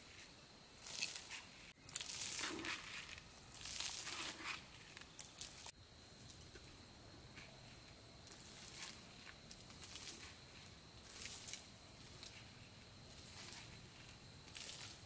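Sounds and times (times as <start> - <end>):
crunching and rustling: 0.8 - 6.4, 7.4 - 15.0.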